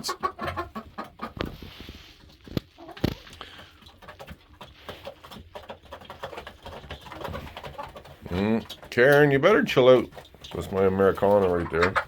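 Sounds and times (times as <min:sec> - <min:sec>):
pecking and scratching clicks: 0:02.2 - 0:12.0.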